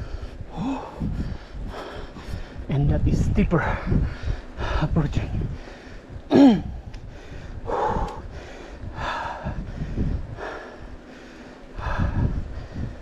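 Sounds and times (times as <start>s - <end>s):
person breathing hard: 0.0s - 2.7s, 3.6s - 13.0s.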